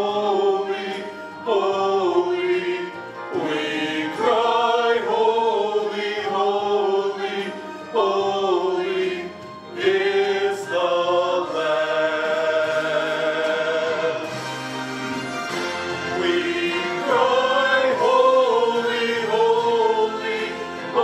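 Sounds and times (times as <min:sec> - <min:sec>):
men singing into microphones: 0:00.0 - 0:14.4, 0:16.1 - 0:21.0.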